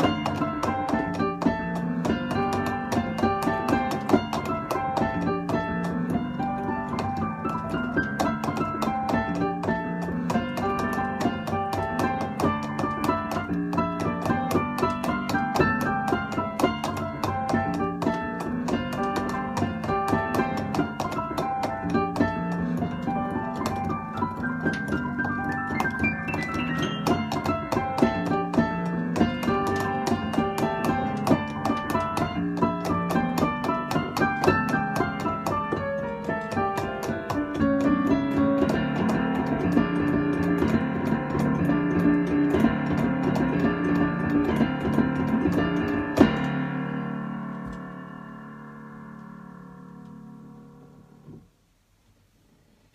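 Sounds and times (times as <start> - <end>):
percussion beat of sharp ticks: 0.0 - 46.6
piano playing fast passage: 0.0 - 51.6.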